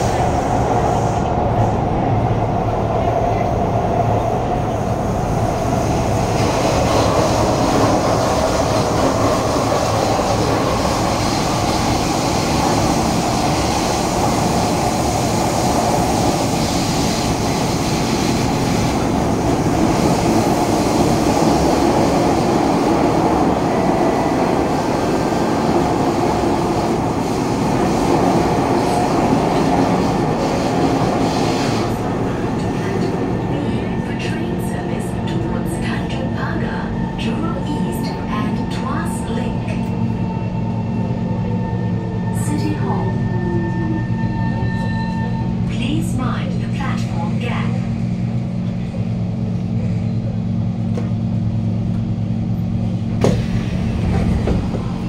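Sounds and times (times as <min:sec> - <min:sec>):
train carriage hum and hiss: 0:00.0 - 0:55.0.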